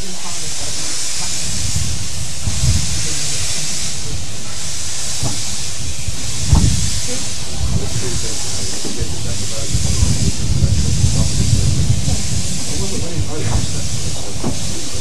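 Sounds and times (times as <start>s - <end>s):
steam locomotive hissing: 0.0s - 15.0s
dull low thumps: 1.2s - 15.0s.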